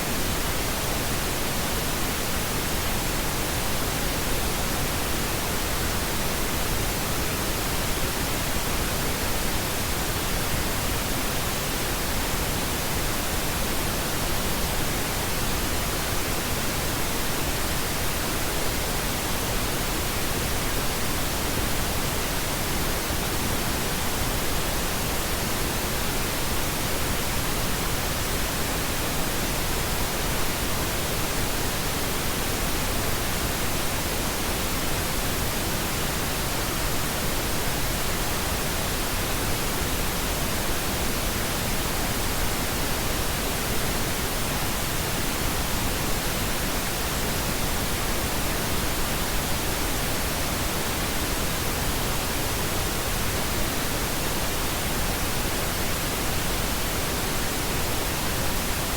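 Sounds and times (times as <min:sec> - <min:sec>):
steady pink noise hiss: 0:00.0 - 0:58.9.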